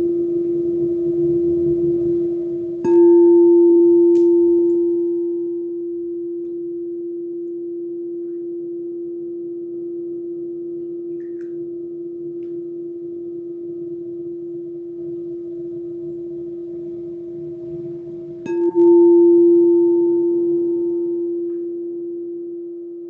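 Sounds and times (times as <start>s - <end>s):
higher bowl struck and ringing: 0.0s - 23.0s
singing bowl held tone: 0.0s - 23.0s.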